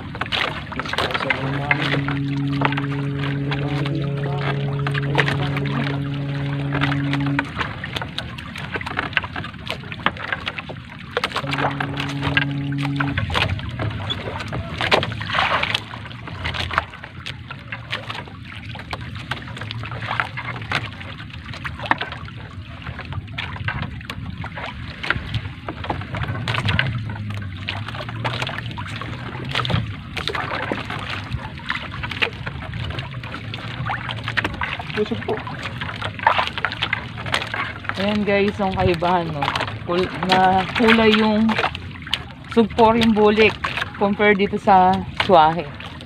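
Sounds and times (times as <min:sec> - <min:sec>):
low steady hum: 0:00.0 - 0:46.0
water lapping against boat: 0:00.0 - 0:46.0.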